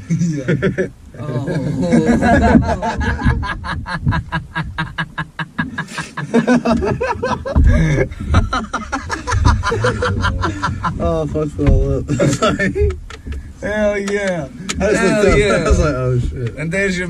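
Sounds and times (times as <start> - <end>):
men laughing: 0.0 - 13.4, 14.6 - 16.2.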